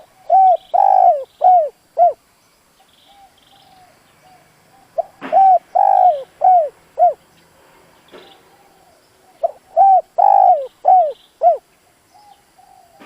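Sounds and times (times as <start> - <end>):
dove cooing: 0.0 - 2.2, 3.1 - 7.2, 8.2 - 13.0
small birds chirping: 0.0 - 13.0.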